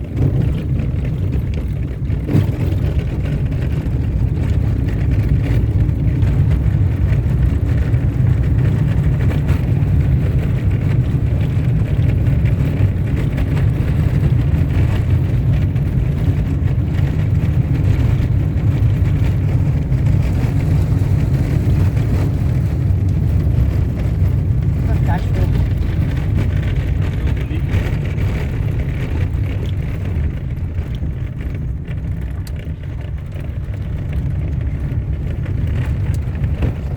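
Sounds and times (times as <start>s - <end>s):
car rumbling on dirt road: 0.0s - 36.9s.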